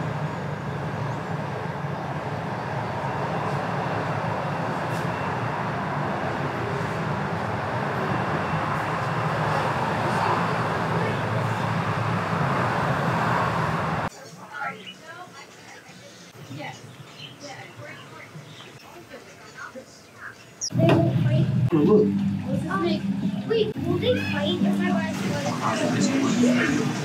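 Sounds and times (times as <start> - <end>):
cars passing on busy street: 0.0 - 27.0.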